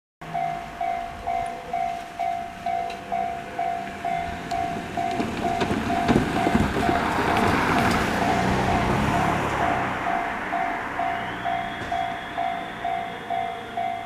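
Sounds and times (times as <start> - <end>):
level crossing alarm pinging: 0.2 - 7.2, 8.1 - 14.0
approaching train rumble: 0.2 - 14.0.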